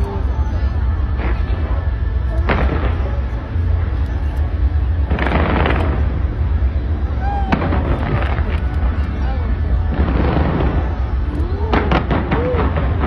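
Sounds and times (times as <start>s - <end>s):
deep rumble: 0.0s - 13.0s
fireworks bangs and crackling: 0.0s - 13.0s.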